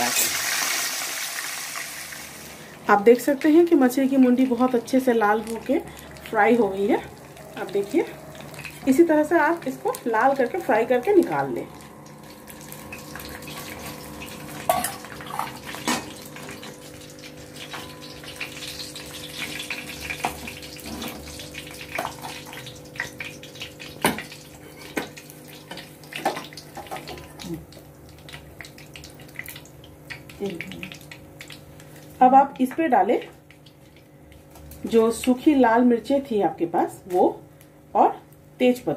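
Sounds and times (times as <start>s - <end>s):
oil sizzling and crackling: 0.0s - 32.7s, 33.3s - 35.5s.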